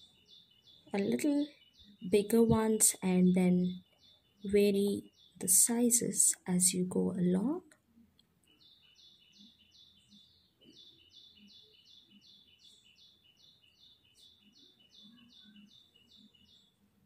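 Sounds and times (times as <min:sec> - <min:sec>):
bird chirping faintly: 0:00.0 - 0:17.0.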